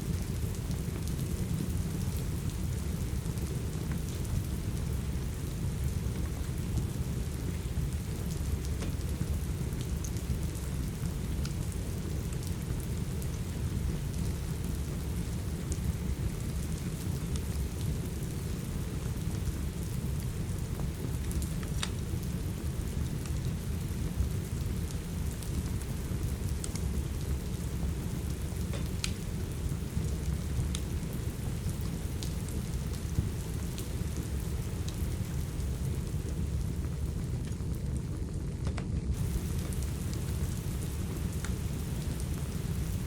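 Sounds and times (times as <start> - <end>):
heavy rain: 0.0 - 38.5, 39.1 - 43.0
wood fire crackling and popping: 0.1 - 43.0.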